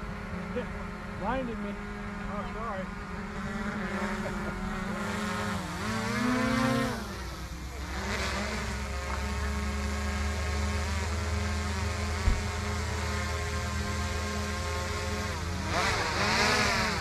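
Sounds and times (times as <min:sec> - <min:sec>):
model aircraft motors buzzing: 0:00.0 - 0:17.0.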